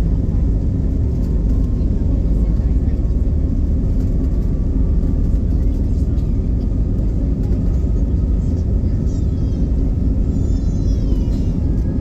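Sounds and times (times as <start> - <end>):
low rumble of engines and wheels: 0.0 - 12.0.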